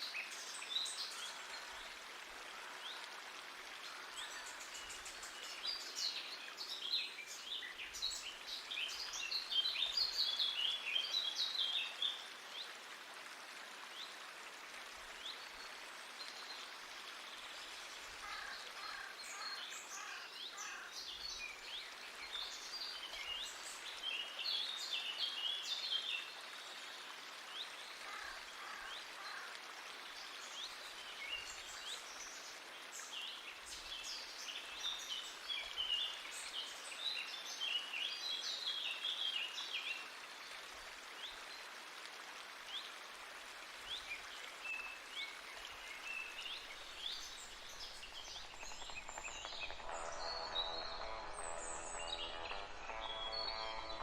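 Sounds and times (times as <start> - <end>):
running creek water: 0.0 - 54.0.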